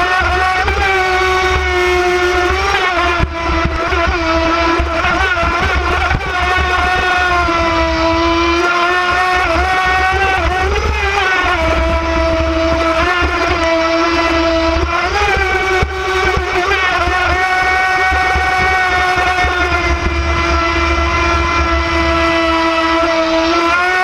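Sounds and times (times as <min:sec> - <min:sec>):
electric boat motor whine: 0:00.0 - 0:24.0.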